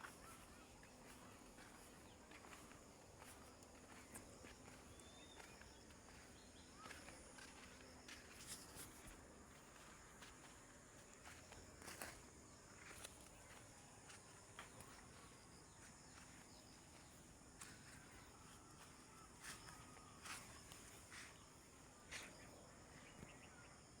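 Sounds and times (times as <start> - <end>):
soft footsteps: 0.0 - 21.4
insects droning: 0.0 - 24.0.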